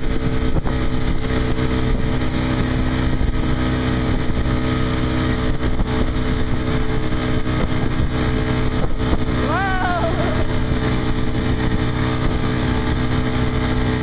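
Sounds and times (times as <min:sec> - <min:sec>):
motorboat engine humming: 0:00.0 - 0:14.0
wake water rushing: 0:00.0 - 0:14.0.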